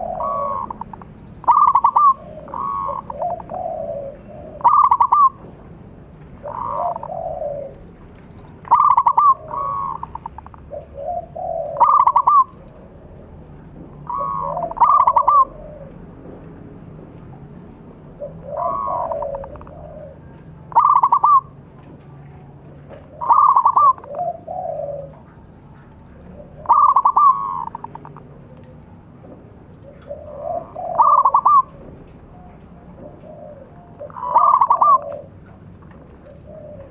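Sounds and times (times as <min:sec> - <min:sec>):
dove cooing song: 0:00.0 - 0:36.9.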